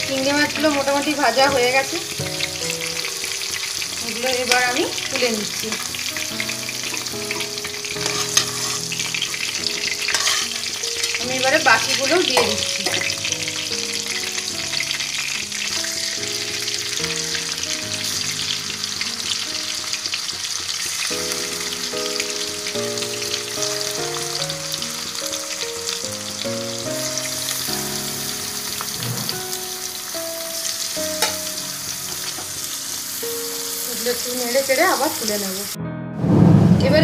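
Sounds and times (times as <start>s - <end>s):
prawns sizzling in oil: 0.0s - 35.8s
soft background melody: 0.0s - 37.0s.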